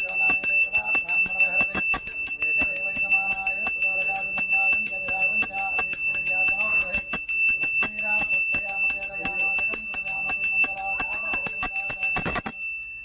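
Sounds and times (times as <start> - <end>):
hand bell ringing rapidly: 0.0 - 13.0.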